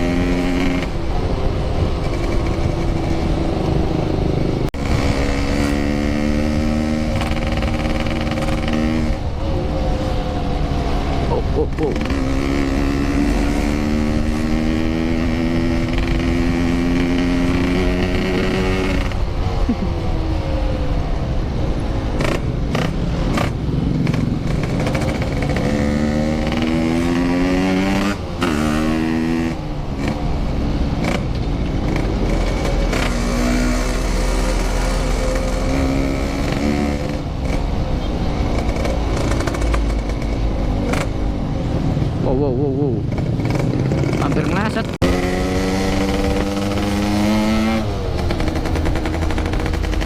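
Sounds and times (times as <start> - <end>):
motorcycle engine revving: 0.0 - 19.8, 22.0 - 50.0
low wind rumble: 0.0 - 50.0.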